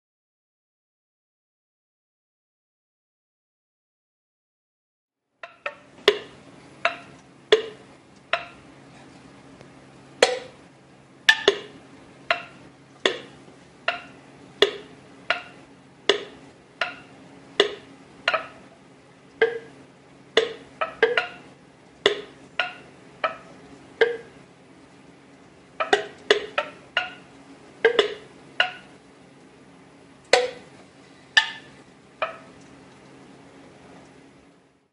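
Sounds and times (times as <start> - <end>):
low steady hum: 5.4 - 34.9.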